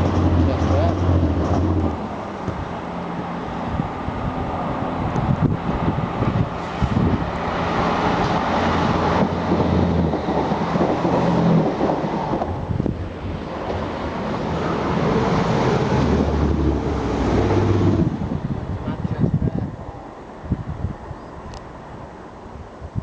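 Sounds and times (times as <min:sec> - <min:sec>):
diesel train running by: 0:00.0 - 0:22.8
wind buffeting microphone: 0:00.0 - 0:23.0.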